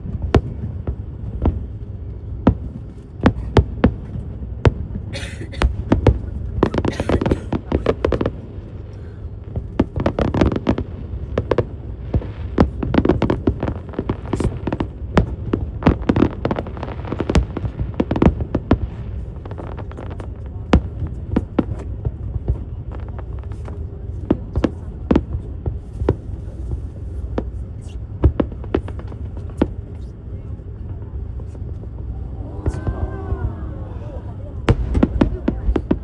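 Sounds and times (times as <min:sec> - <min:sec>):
fireworks bangs and crackles: 0:00.0 - 0:36.0
low fireworks rumble: 0:00.0 - 0:36.0.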